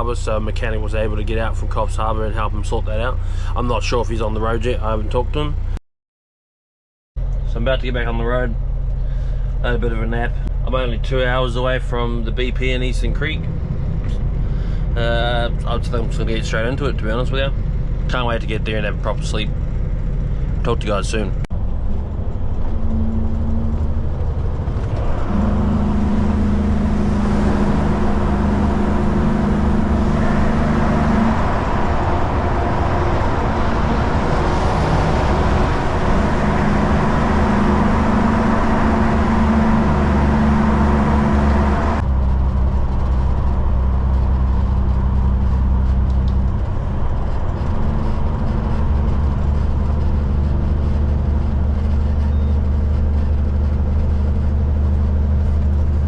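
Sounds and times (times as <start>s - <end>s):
diesel truck engine running: 0.0s - 5.8s, 7.2s - 56.0s
road noise: 0.0s - 5.8s, 7.2s - 56.0s.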